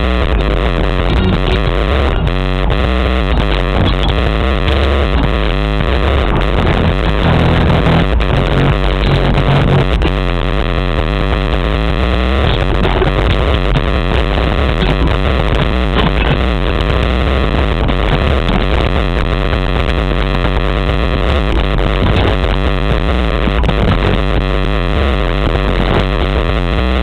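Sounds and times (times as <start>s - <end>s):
distorted bass-heavy music: 0.0s - 27.0s.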